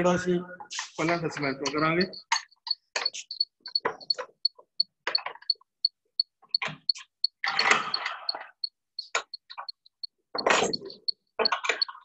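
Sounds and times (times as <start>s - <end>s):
faint high-pitched ticking: 1.0s - 12.0s.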